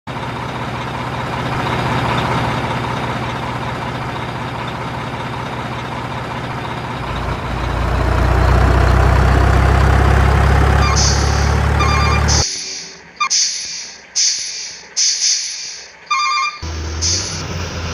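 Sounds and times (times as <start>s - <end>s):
truck engine running: 0.1s - 17.9s.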